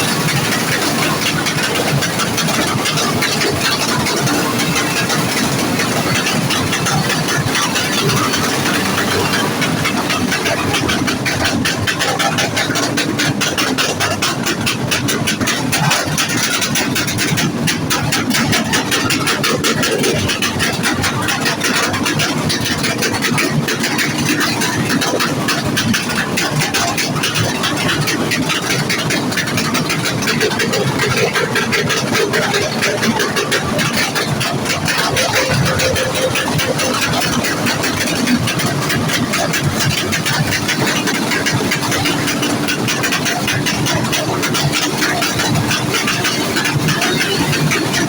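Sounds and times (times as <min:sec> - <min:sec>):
vehicle engine running roughly: 0:00.0 - 0:48.0.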